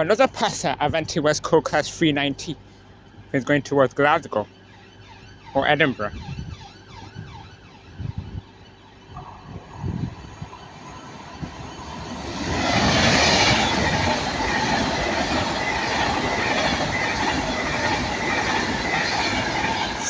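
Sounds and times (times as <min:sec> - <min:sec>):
electric train passing at speed: 0:00.0 - 0:20.0.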